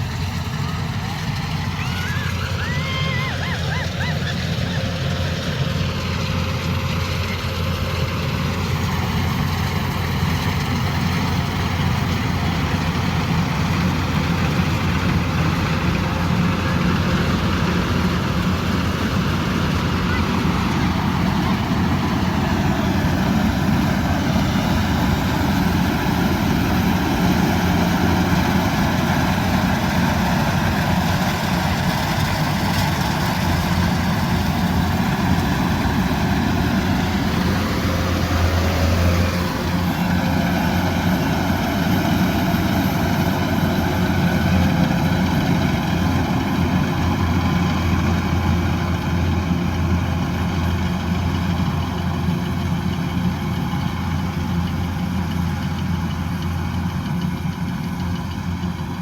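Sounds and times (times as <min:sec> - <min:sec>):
combine harvester engine hum: 0:00.0 - 0:59.0.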